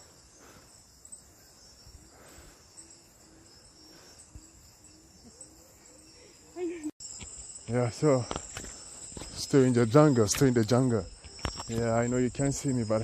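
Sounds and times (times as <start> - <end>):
insects chirring chorus: 0.0 - 13.0.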